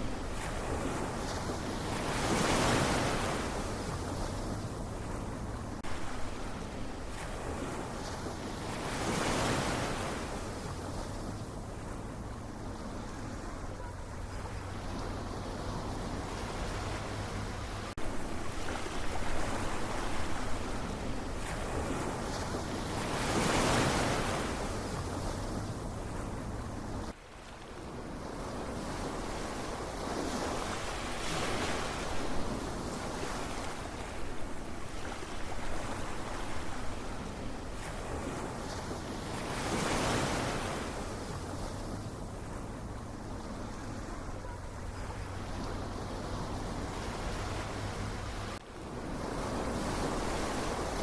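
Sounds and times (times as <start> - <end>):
ocean waves washing in: 0.0 - 51.0
waves breaking: 0.0 - 51.0.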